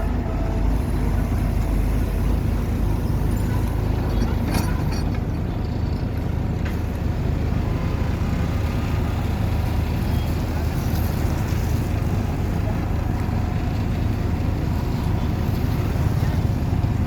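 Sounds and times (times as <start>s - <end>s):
heavy machine engine humming: 0.0s - 17.0s.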